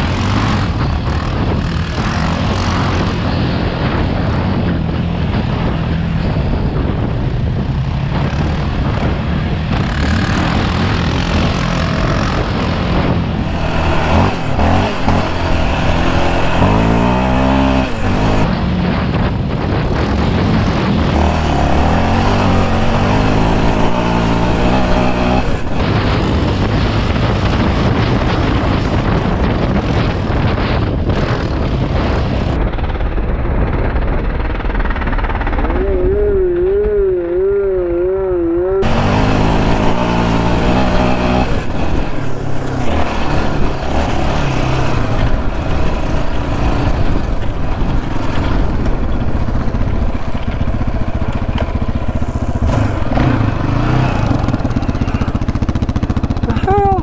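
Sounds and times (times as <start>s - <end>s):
quad bike engine revving: 0.0s - 18.7s, 19.7s - 29.2s, 34.8s - 57.0s.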